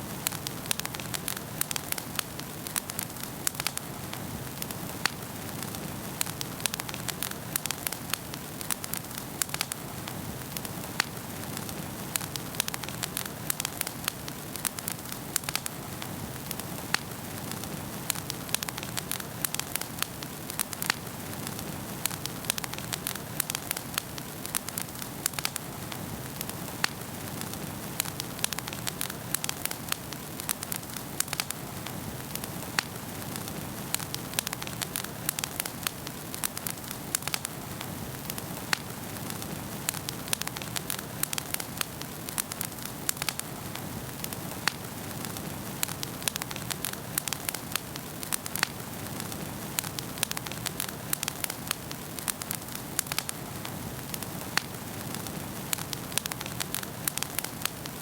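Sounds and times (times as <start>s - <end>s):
burning logs crackling and popping: 0.0s - 58.0s.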